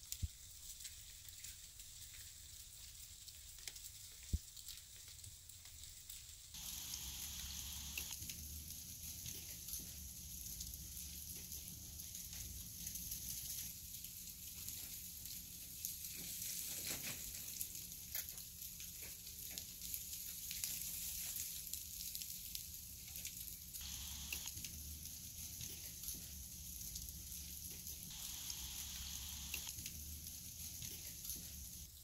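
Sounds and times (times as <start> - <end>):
faint steady hiss: 0.0 - 32.0
small ticks and crackles: 0.0 - 32.0.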